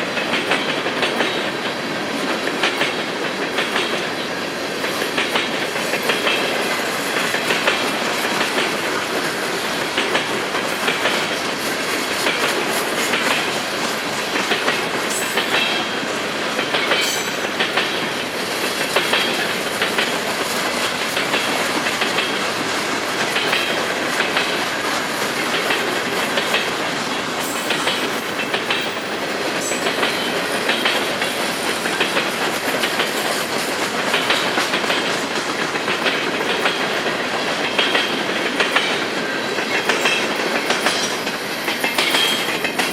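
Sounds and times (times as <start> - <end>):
freight train cars rumbling: 0.0 - 42.9
wheels clicking over rail joints: 0.0 - 42.9.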